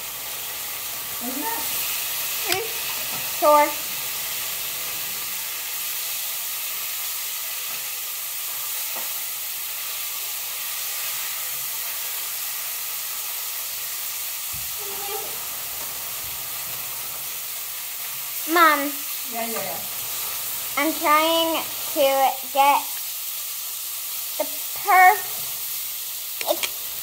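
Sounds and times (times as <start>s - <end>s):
food sizzling in frying pan: 0.0s - 27.0s.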